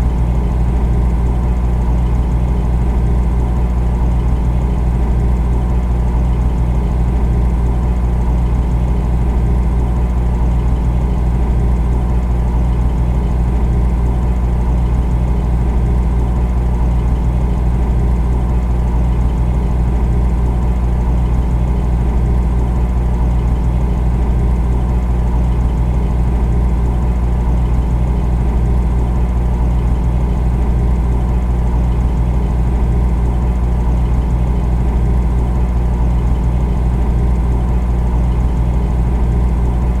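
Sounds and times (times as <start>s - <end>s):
refrigerator motor hum: 0.0s - 40.0s.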